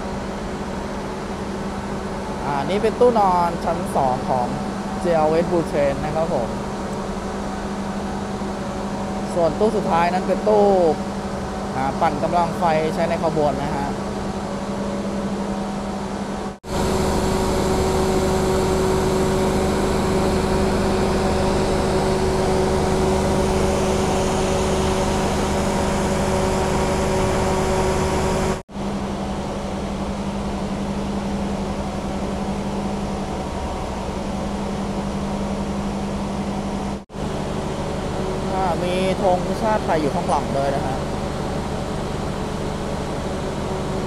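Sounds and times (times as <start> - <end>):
diesel generator drone: 0.0 - 44.0.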